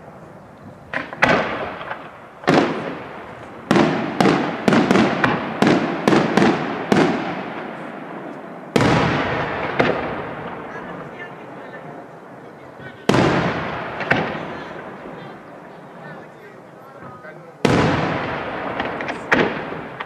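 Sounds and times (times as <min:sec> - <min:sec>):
firework shells bursting: 0:00.9 - 0:12.2, 0:13.0 - 0:15.6, 0:17.6 - 0:20.0.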